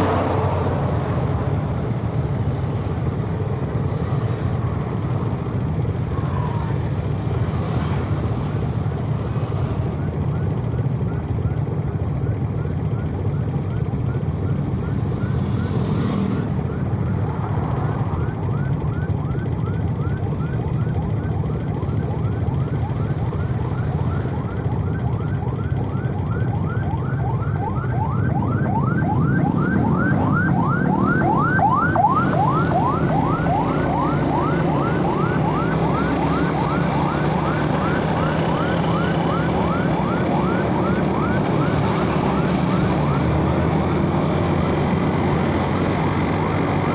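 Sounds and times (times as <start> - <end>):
traffic noise: 0.0 - 46.9
siren yelping: 3.2 - 8.2, 9.3 - 46.9.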